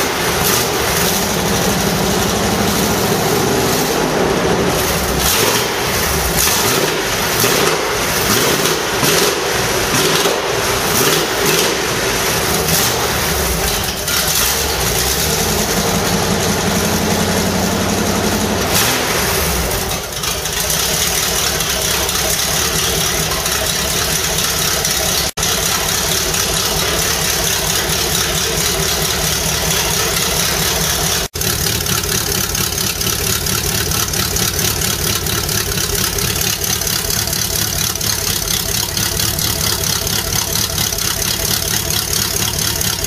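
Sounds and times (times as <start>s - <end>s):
engine idling through loud exhaust: 0.0s - 43.0s
engine revving: 0.0s - 43.0s.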